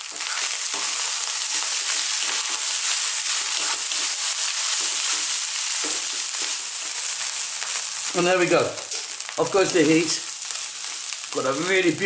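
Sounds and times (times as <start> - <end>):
rice sizzling in a frying pan: 0.0 - 12.0.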